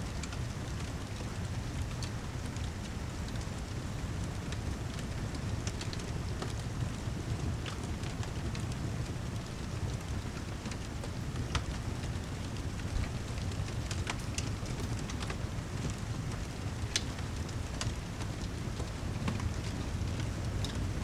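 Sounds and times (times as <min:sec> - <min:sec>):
steady rain: 0:00.0 - 0:21.0
wood fire crackling: 0:00.1 - 0:21.0.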